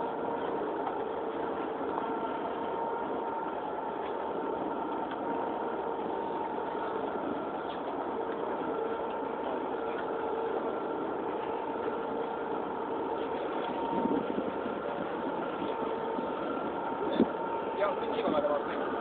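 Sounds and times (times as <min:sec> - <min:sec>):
boat engine idling: 0:00.0 - 0:19.0
steady whine: 0:00.0 - 0:19.0.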